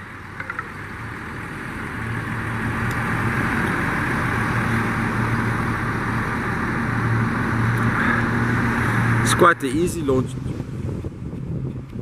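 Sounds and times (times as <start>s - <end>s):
outboard engines humming: 0.0s - 12.0s.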